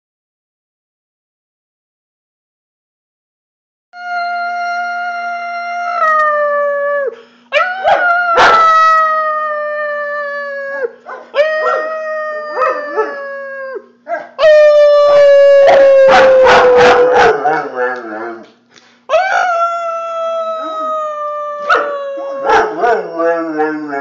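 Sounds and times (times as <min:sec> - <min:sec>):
dog howling: 0:04.0 - 0:18.5, 0:19.1 - 0:24.0.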